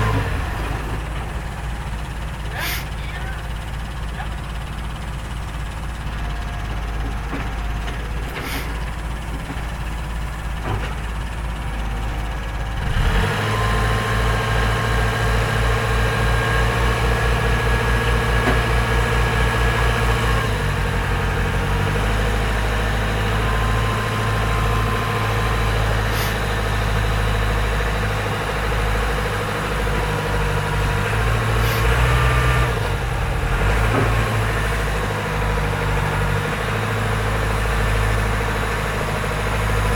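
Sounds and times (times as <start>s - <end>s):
diesel engines of heavy machines: 0.0s - 39.9s.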